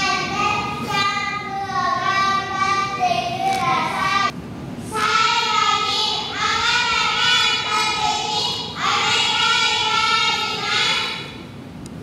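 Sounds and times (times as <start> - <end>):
girls reciting in unison: 0.0 - 11.5.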